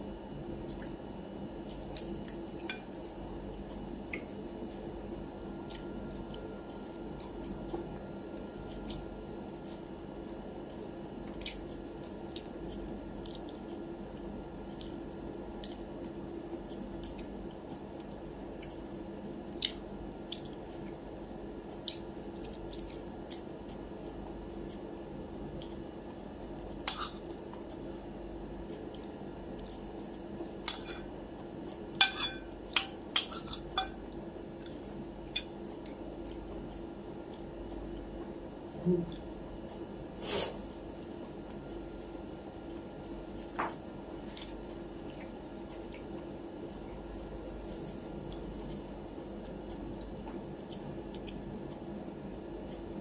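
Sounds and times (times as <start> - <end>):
steady low hum: 0.0 - 53.0
person chewing food: 0.5 - 53.0.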